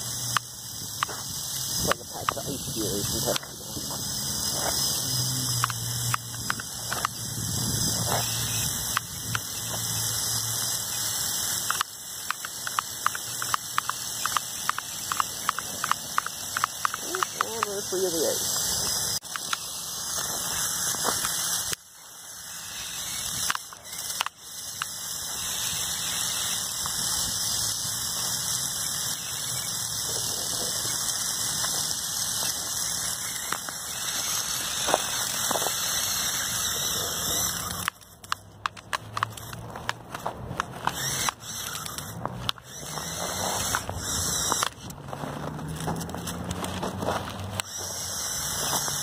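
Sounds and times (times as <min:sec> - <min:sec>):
toy motors whining: 0:00.0 - 0:49.0.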